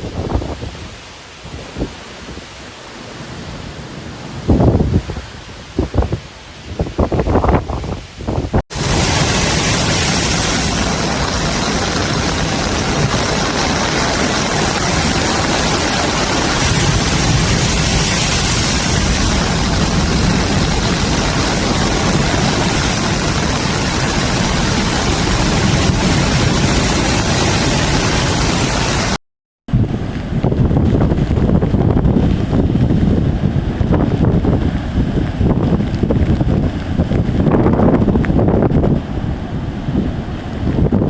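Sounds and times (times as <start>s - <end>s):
strong wind on microphone: 0.0s - 41.0s.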